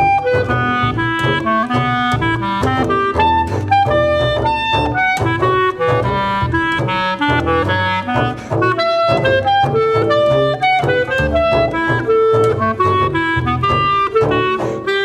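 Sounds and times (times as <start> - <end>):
clarinet playing fast notes: 0.0 - 15.0
double bass low notes: 0.0 - 15.0.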